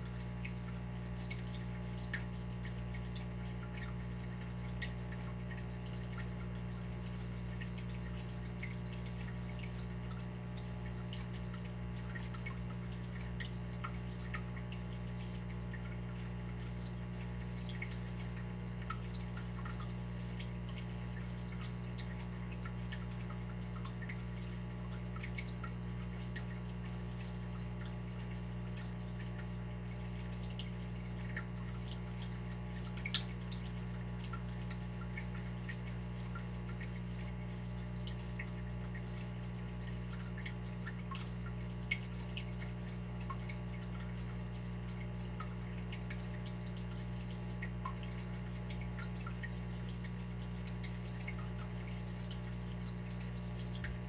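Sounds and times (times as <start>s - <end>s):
water dripping and trickling: 0.0s - 54.0s.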